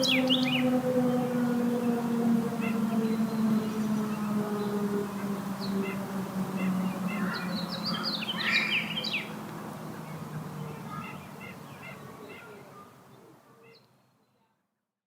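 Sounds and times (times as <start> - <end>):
distant warning sirens: 0.0 - 12.7
birds chirping: 0.0 - 14.4.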